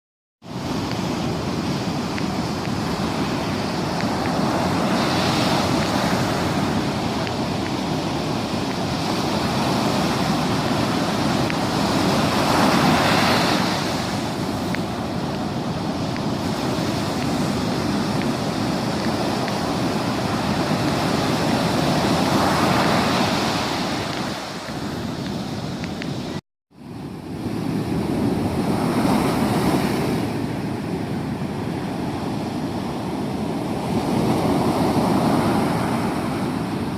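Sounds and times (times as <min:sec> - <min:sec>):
sea waves breaking on a beach: 0:00.4 - 0:36.9.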